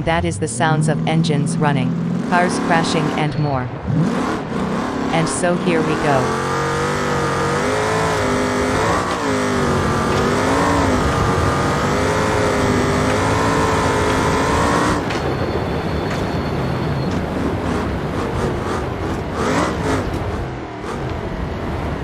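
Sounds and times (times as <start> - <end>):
car engine revving: 0.0 - 22.0
rough engine revving: 0.0 - 22.0.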